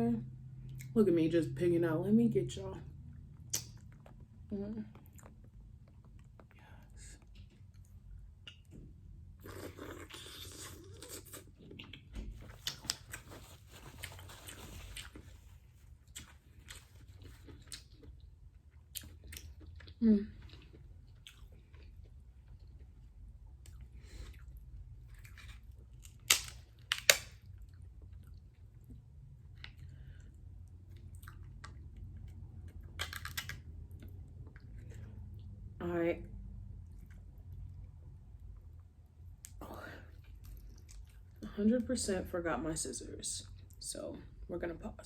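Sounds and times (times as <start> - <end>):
steady low hum: 0.0 - 45.0
chewing seafood: 3.2 - 35.5, 36.8 - 41.4.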